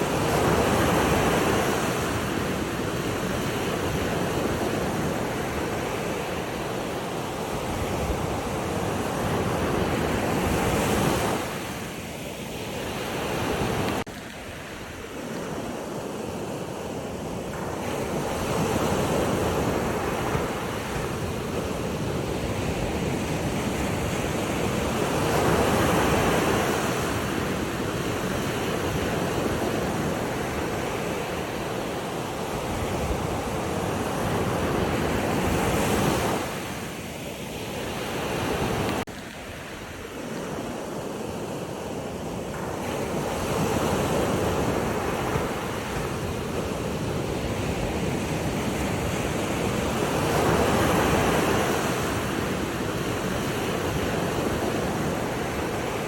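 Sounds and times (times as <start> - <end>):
ocean waves washing ashore: 0.0 - 56.0.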